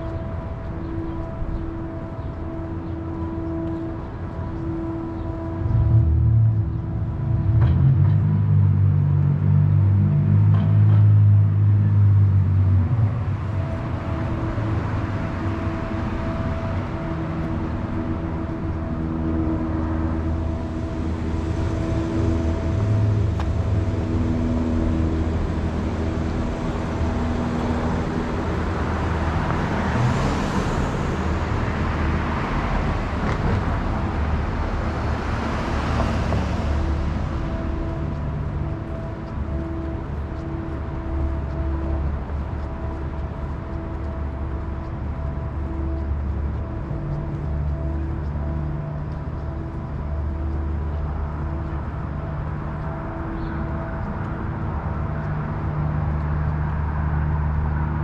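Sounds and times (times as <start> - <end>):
heavy rumble: 0.0 - 58.0
low engine hum: 0.0 - 58.0
vehicles passing: 0.0 - 58.0.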